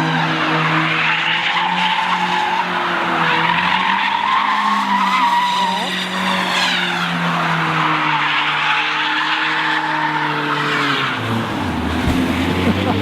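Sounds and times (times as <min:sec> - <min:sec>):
car engine at high revs: 0:00.0 - 0:13.0
tyres skidding: 0:00.0 - 0:13.0.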